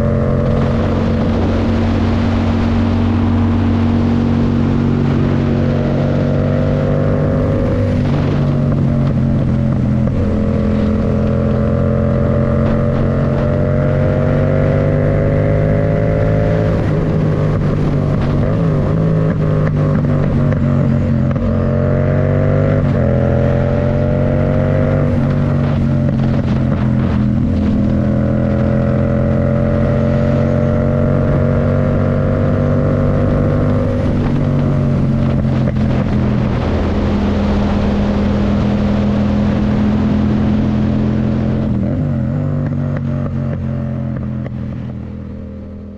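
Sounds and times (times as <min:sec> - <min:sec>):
motorcycle engine at speed: 0:00.0 - 0:45.9
wind rush: 0:00.0 - 0:45.9.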